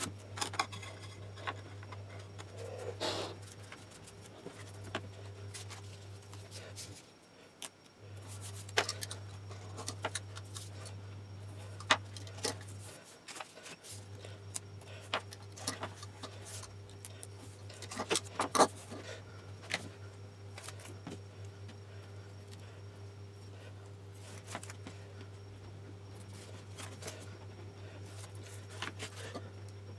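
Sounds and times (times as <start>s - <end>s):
faint steady low hum: 0.0s - 29.9s.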